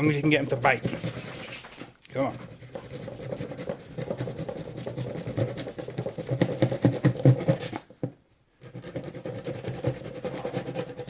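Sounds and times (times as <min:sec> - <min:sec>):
knife sawing cardboard: 0:00.0 - 0:07.9, 0:08.6 - 0:11.0.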